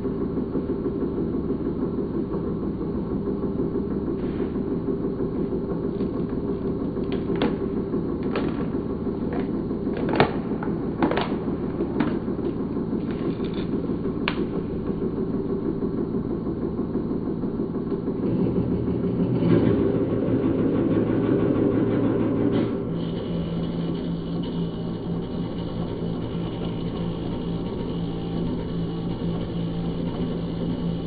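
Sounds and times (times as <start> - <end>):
hydraulic power unit hum: 0.0 - 31.0.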